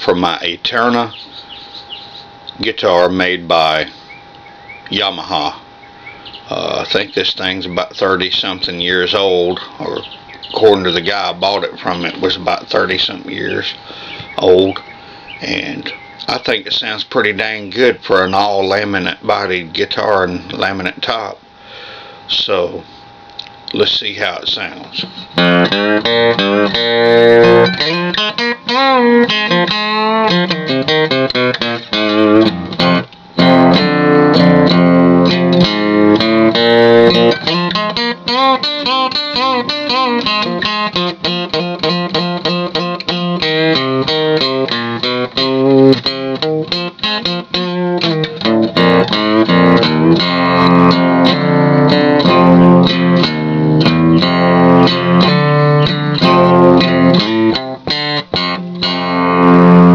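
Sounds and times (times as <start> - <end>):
acoustic guitar playing: 1.8 - 21.1, 25.0 - 59.9.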